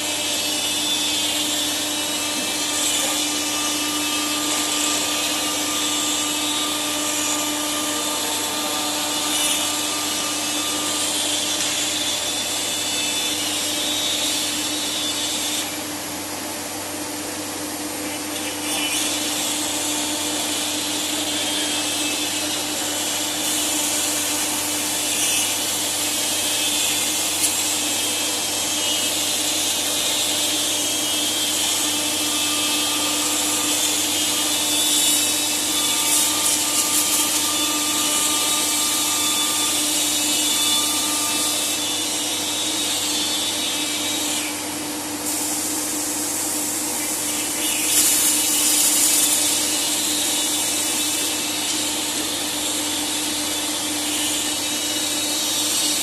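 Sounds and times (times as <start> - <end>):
cutter hissing through wood: 0.0 - 56.0
wood router spindle whine: 0.0 - 56.0.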